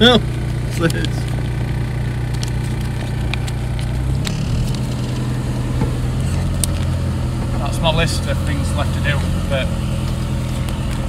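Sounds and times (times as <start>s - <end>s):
diesel engine running in cabin: 0.0s - 11.0s.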